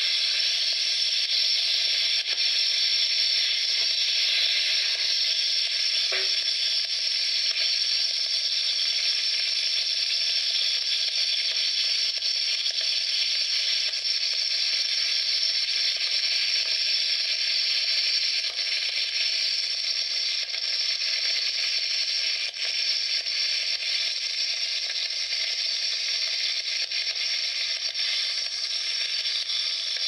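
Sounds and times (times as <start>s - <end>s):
campfire hissing and crackling: 0.0s - 30.0s.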